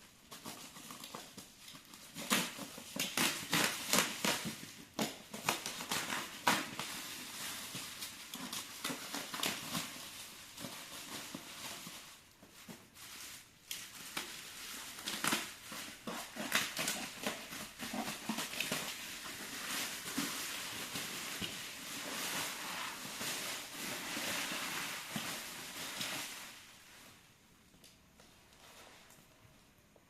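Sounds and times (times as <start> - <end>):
wrapping and cardboard rustling: 0.0 - 27.4, 28.2 - 29.6.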